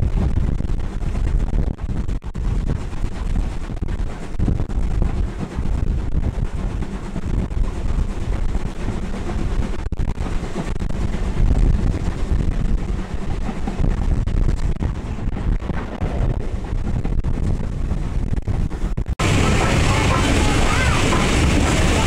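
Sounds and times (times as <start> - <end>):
train running noise: 0.0 - 22.0
wind buffeting microphone: 0.0 - 22.0.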